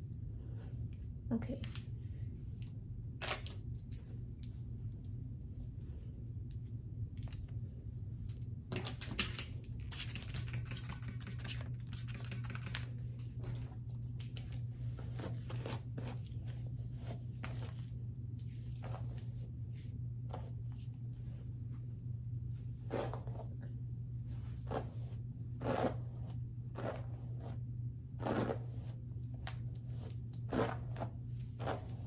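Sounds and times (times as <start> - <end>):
low hum: 0.0 - 32.0.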